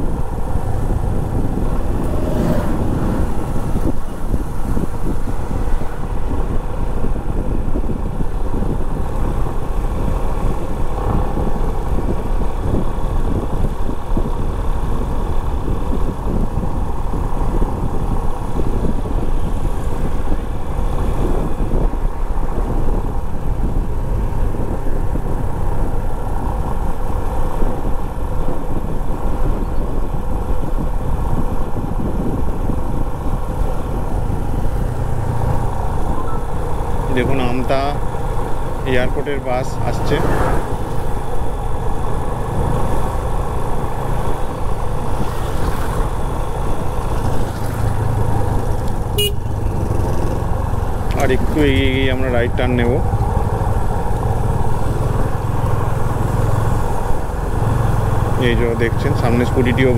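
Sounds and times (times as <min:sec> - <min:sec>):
motorcycle engine running: 0:00.0 - 0:27.5, 0:29.4 - 0:59.9
wind on microphone: 0:00.0 - 0:59.5
road noise: 0:00.0 - 0:59.9.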